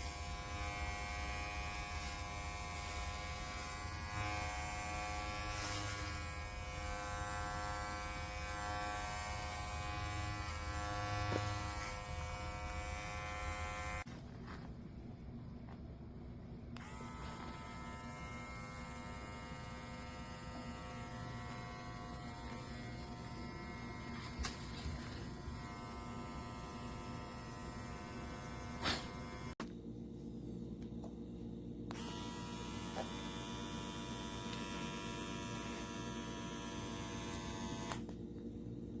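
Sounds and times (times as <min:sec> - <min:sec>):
trimmer motor humming: 0:00.0 - 0:14.1, 0:16.8 - 0:29.7, 0:31.9 - 0:38.2.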